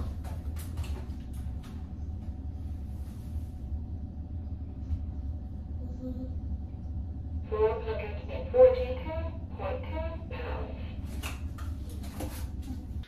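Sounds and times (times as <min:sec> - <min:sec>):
low background rumble with hum: 0:00.0 - 0:13.0.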